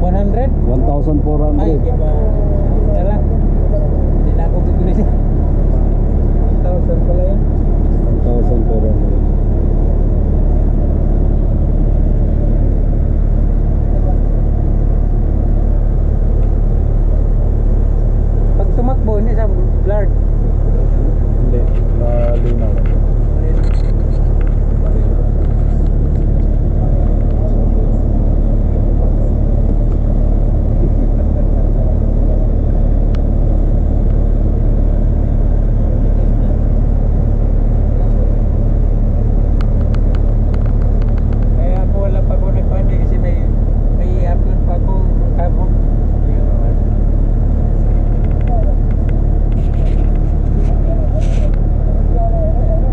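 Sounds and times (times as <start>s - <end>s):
bus engine rumble: 0.0s - 52.9s.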